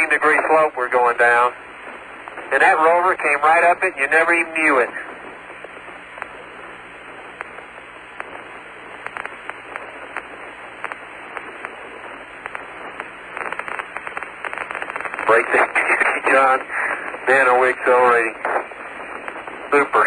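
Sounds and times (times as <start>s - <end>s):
radio static hiss with clicks: 0.0s - 20.0s.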